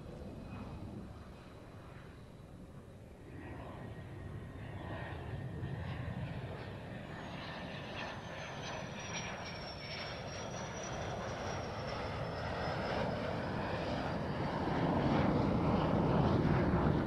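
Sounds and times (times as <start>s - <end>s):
jet engine noise with high whine: 0.0s - 17.0s.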